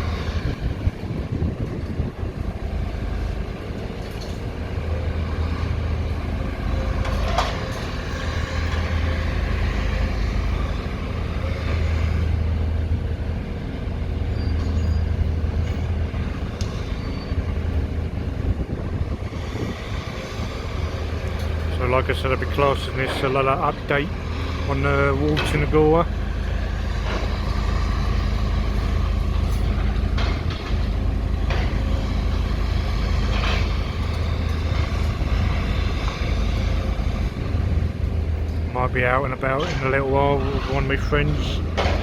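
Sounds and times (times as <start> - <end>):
diesel machinery rumbling: 0.0 - 42.0.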